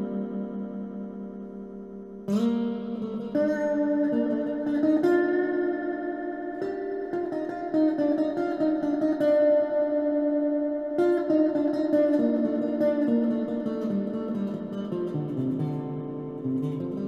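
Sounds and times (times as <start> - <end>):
electric guitar instrumental: 0.0 - 17.0.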